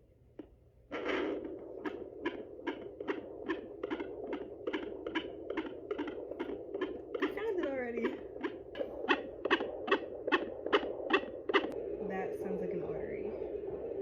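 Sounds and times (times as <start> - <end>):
fetal heartbeat whooshing pulse: 0.0 - 14.0.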